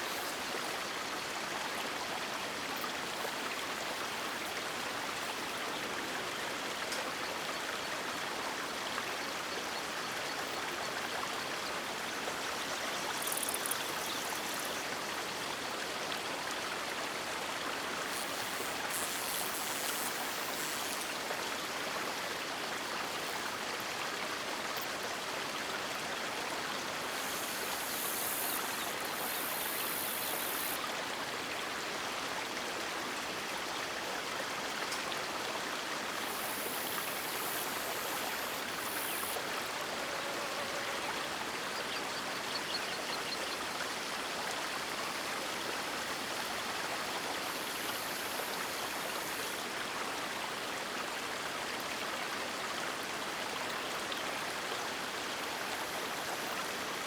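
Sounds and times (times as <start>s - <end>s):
faint high-pitched hiss: 0.0s - 57.0s.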